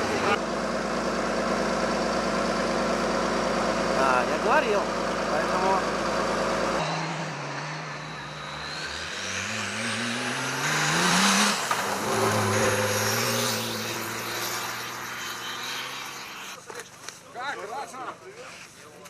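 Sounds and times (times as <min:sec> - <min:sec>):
car engine accelerating hard: 0:00.0 - 0:16.6.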